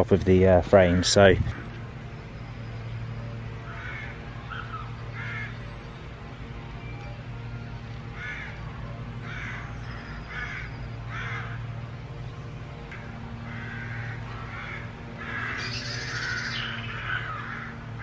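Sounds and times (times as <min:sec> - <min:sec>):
birds harsh calls: 0:00.0 - 0:18.0
steady low hum: 0:00.0 - 0:18.0.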